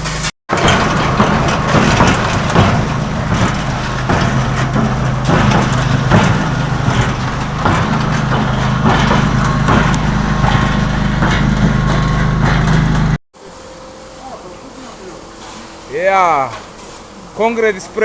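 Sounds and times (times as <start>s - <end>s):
concrete mixer engine running: 0.0s - 15.3s.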